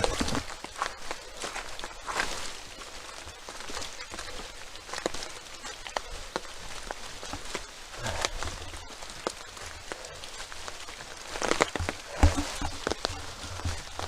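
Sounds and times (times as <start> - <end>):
footsteps in the wet: 0.0 - 14.0
rain falling: 0.0 - 14.0
sharp rain drop ticks: 0.1 - 14.0.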